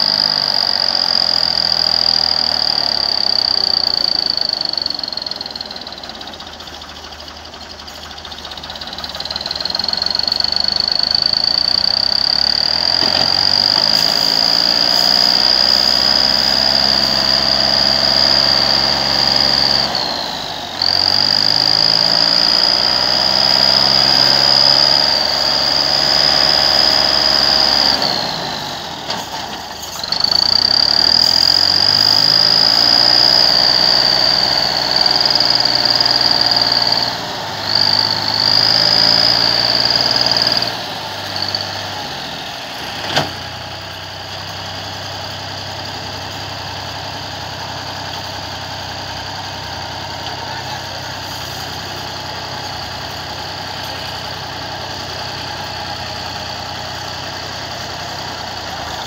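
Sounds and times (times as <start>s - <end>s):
high engine whine: 0.0s - 59.0s
tractor engine labouring: 0.0s - 59.0s.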